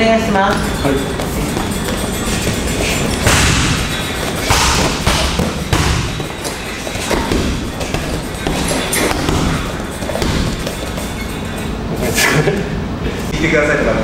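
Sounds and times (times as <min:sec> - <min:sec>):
boxing gloves punching heavy bag: 0:00.3 - 0:11.7.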